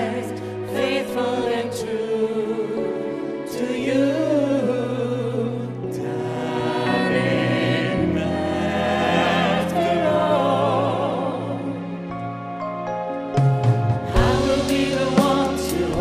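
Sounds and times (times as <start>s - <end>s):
vocal ensemble singing harmonies: 0.0s - 12.4s, 13.9s - 16.0s
string orchestra: 0.0s - 16.0s.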